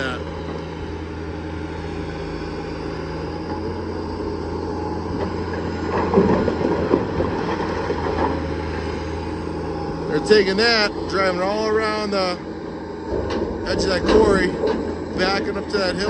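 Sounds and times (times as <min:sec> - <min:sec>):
heavy diesel engine droning: 0:00.0 - 0:16.0.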